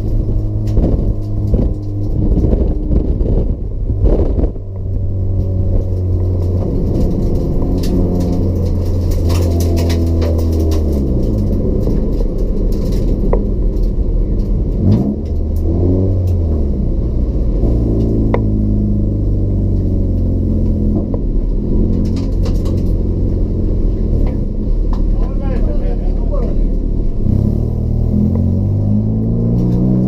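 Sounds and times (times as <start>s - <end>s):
car engine running hard: 0.0s - 30.0s.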